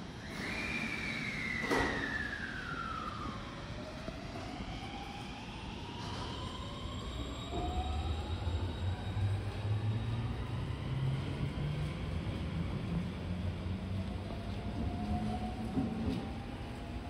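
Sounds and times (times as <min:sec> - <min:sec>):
low train hum: 0:00.0 - 0:17.0.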